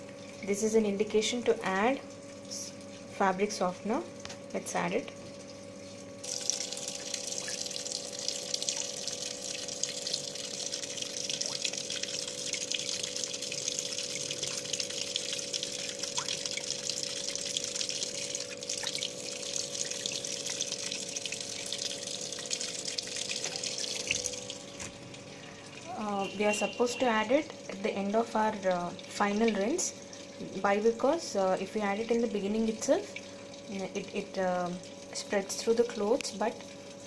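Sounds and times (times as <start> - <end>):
washing machine hum: 0.0 - 37.0
water rushing into washing machine: 0.0 - 37.0.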